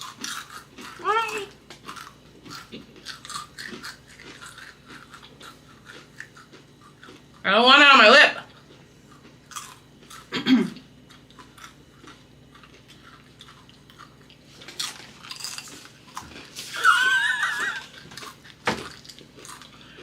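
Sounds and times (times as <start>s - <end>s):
people chewing: 0.0s - 7.5s, 8.4s - 20.0s.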